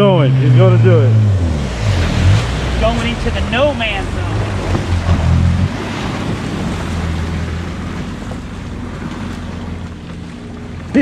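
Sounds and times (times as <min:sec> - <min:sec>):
personal watercraft engine running: 0:00.0 - 0:11.0
wind noise on microphone: 0:00.4 - 0:10.8.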